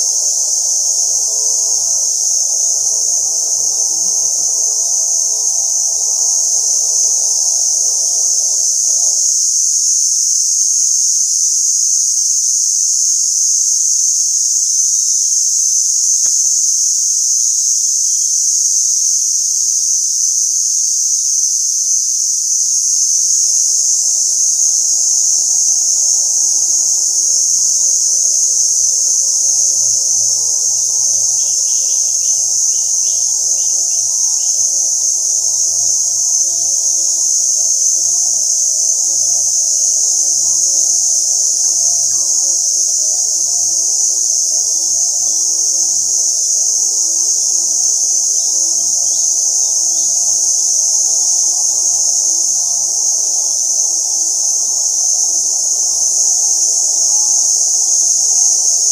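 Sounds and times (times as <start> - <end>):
forest insects shrilling: 0.0 - 58.9.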